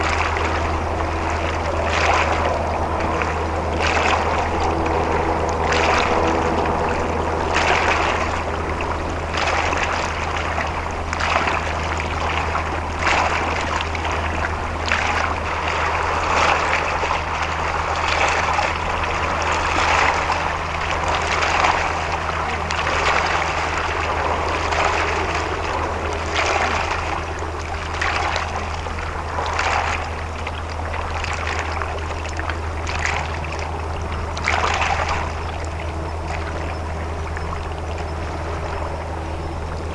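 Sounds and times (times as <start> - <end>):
ship engine humming: 0.0 - 39.9
water splashing against hull: 0.0 - 39.9.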